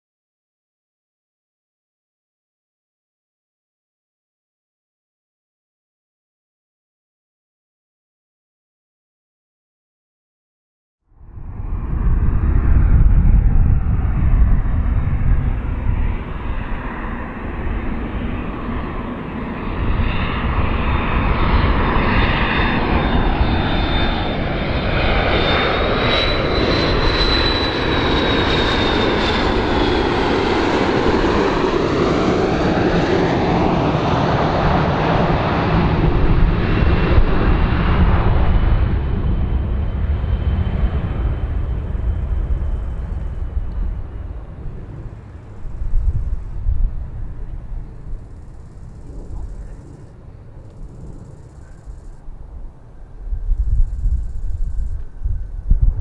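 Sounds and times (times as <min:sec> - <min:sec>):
jet engine rumble: 0:11.1 - 0:56.0
jet engine whine: 0:11.1 - 0:56.0.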